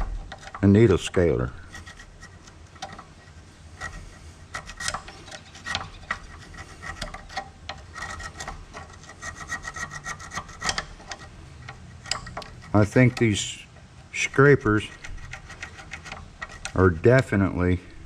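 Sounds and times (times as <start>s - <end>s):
hand scraper scraping metal: 0.0s - 17.6s.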